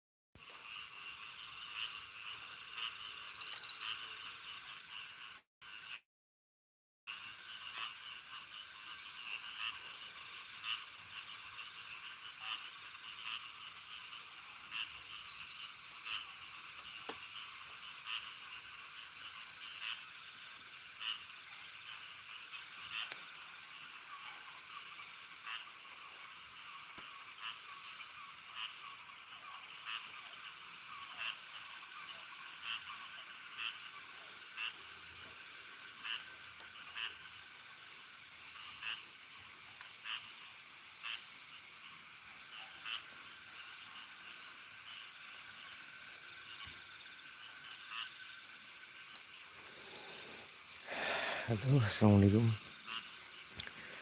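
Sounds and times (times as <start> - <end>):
frogs croaking: 0.4 - 6.0, 7.1 - 54.0
insects trilling: 0.4 - 6.0, 7.1 - 54.0.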